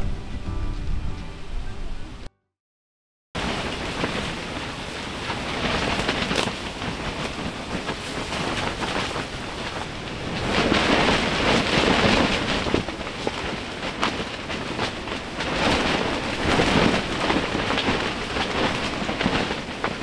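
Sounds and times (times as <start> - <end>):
wind noise on microphone: 0.0 - 2.3, 3.4 - 20.0
strong wind gusting: 3.4 - 20.0.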